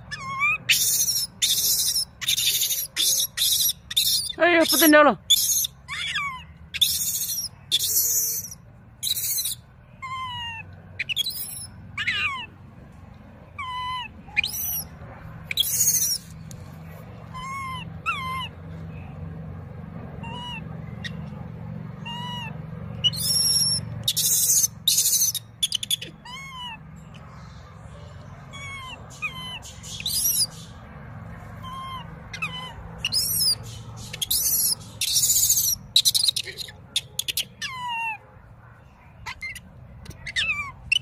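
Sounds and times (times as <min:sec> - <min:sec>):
baby monkey crying: 0:00.0 - 0:12.6, 0:13.5 - 0:16.4, 0:17.2 - 0:18.6, 0:20.2 - 0:30.8, 0:31.4 - 0:38.3, 0:39.2 - 0:41.0
baby monkey screaming: 0:00.0 - 0:12.6, 0:13.5 - 0:16.4, 0:17.2 - 0:18.6, 0:20.2 - 0:30.8, 0:31.5 - 0:38.3, 0:39.2 - 0:41.0.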